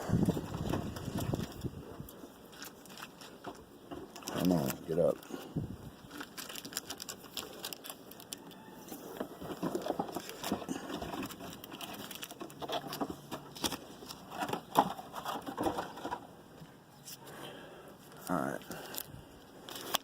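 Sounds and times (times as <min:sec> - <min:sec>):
wrapper crinkling: 0:00.2 - 0:16.1, 0:18.7 - 0:20.0
cards rustling: 0:00.2 - 0:16.2, 0:18.1 - 0:20.0.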